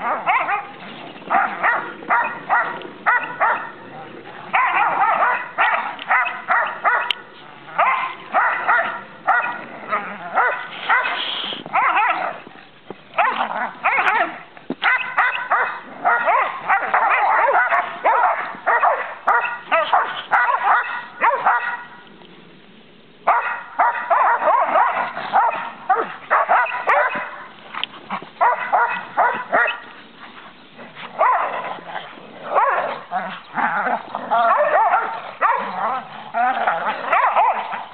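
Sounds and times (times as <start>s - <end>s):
dogs barking: 0.0s - 3.8s, 4.5s - 9.7s, 10.3s - 12.5s, 13.2s - 22.0s, 23.2s - 29.9s, 31.2s - 31.8s, 32.4s - 37.9s.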